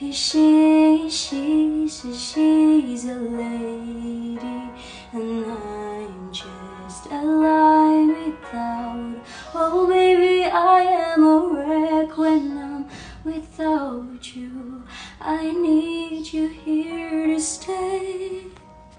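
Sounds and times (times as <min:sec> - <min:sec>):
woman singing slow melody: 0:00.0 - 0:18.6.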